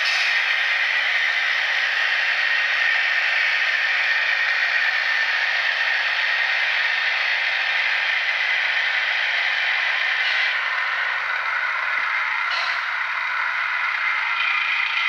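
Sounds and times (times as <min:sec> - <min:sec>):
model train engine drone: 0:00.0 - 0:15.0.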